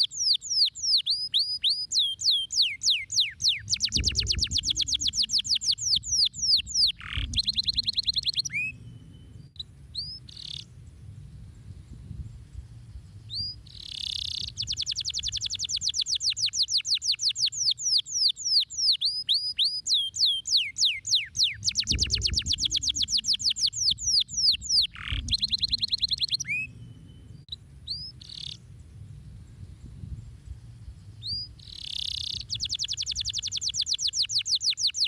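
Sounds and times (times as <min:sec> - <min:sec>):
canary singing trills: 0:00.0 - 0:10.7, 0:13.2 - 0:28.7, 0:30.7 - 0:35.0
bird chirps: 0:00.0 - 0:10.8, 0:11.7 - 0:28.7, 0:29.6 - 0:35.0.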